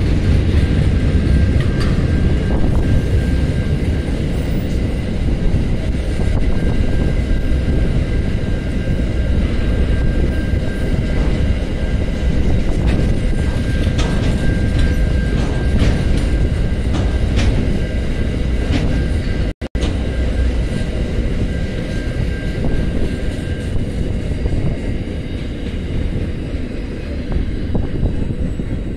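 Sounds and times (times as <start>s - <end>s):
freight train rumbling past: 0.0s - 28.9s
high wheel squeal: 0.0s - 28.9s
wheels clanking over rail joints: 0.0s - 28.9s.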